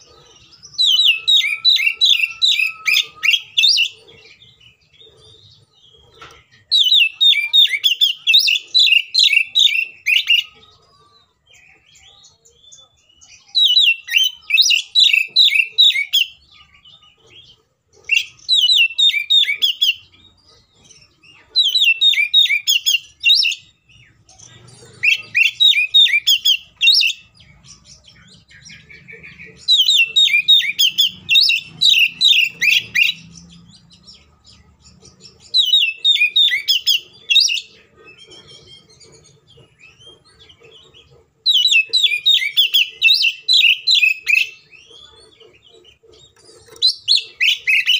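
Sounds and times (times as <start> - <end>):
bird singing: 0.0 - 47.9.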